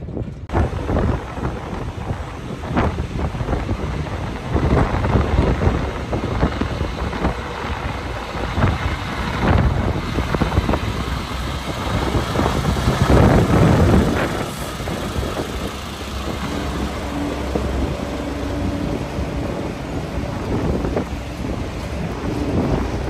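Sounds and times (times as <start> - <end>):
truck diesel engine running: 0.0 - 23.0
wind buffeting microphone: 0.0 - 23.0.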